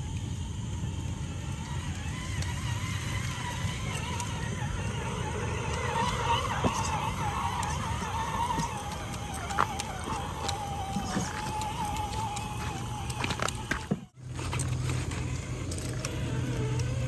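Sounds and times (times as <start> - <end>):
electric motor whining: 0.0 - 17.0
toy truck churning through water: 1.5 - 17.0.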